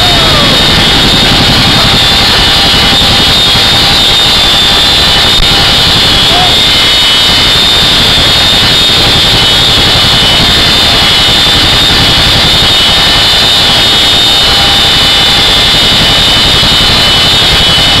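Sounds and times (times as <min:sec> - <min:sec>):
helicopter engine roar: 0:00.0 - 0:18.0
steady high whine: 0:00.0 - 0:18.0.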